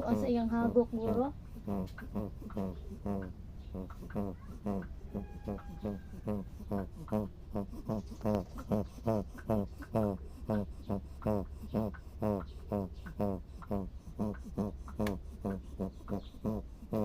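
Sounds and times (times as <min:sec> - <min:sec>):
puppy snoring: 0:00.0 - 0:17.0.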